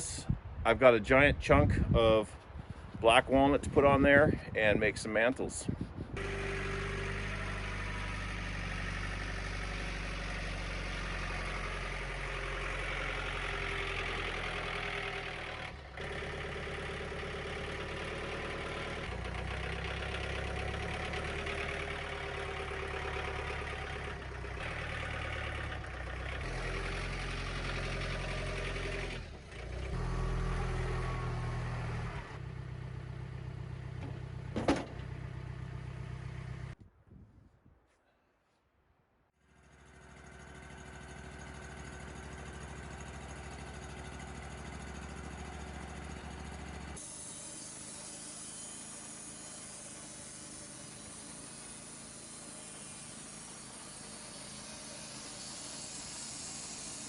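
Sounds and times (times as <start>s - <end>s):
sawmill engine running: 5.2s - 36.8s, 39.4s - 57.0s.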